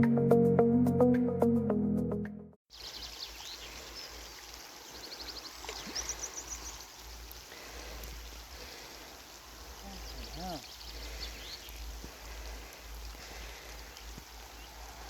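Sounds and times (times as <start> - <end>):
small birds chirping: 2.7 - 15.0
steady hiss: 2.7 - 15.0.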